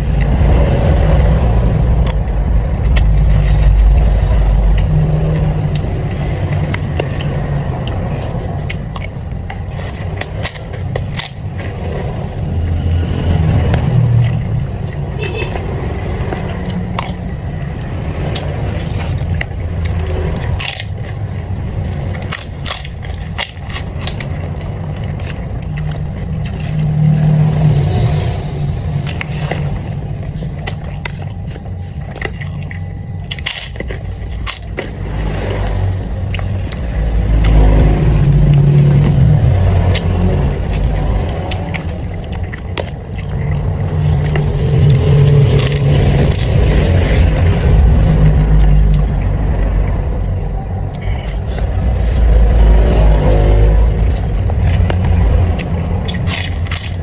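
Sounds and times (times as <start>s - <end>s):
low rumble: 0.0s - 57.0s
person chewing and crunching: 0.0s - 57.0s.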